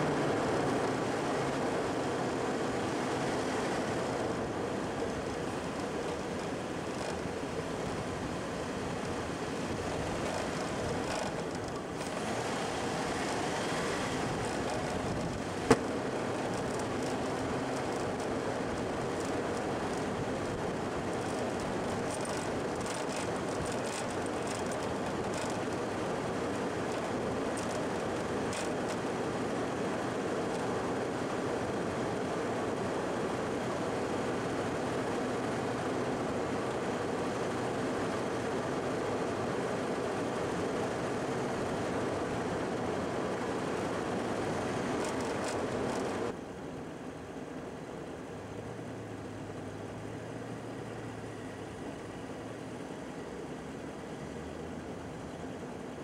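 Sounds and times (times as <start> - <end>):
vehicle driving on sand: 0.0 - 46.6.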